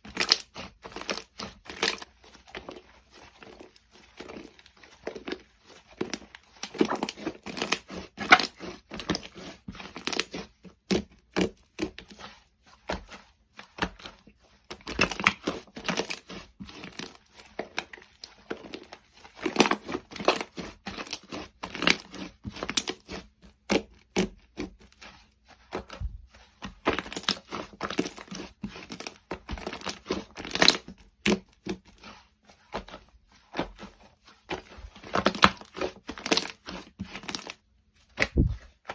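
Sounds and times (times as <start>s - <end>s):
slime squishing and crackling: 0.0s - 38.9s.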